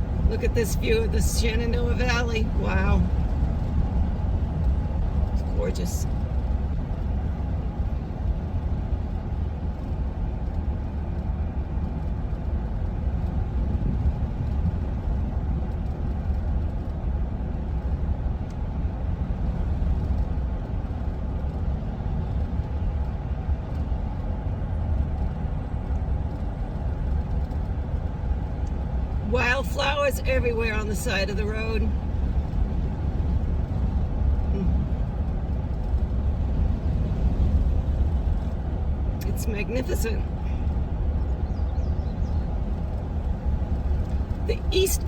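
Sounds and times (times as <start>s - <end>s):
road and engine rumble: 0.0s - 45.0s.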